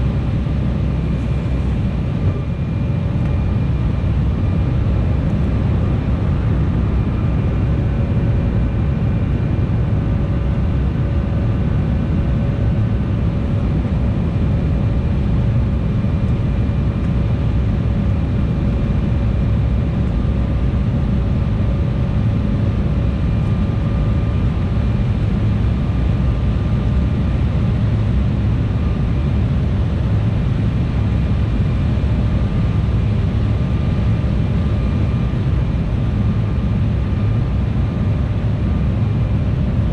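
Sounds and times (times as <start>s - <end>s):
jet cabin engine rumble: 0.0s - 39.9s.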